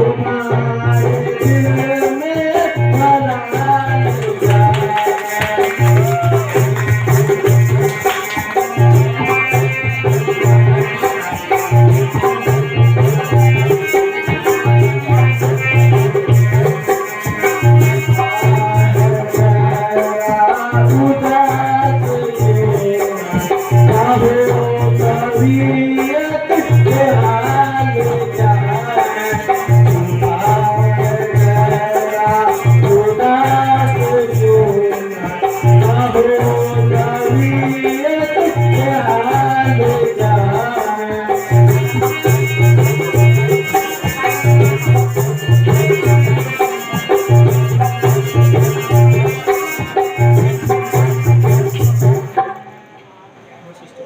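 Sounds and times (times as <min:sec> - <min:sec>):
fast rattling percussion: 0:00.0 - 0:52.6.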